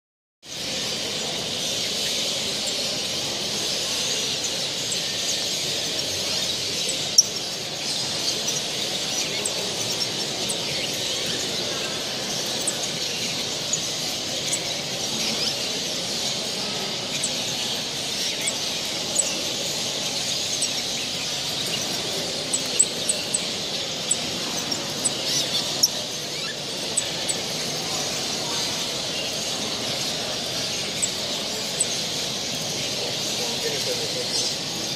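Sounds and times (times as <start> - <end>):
canaries and finches chirping: 0.4 - 34.9.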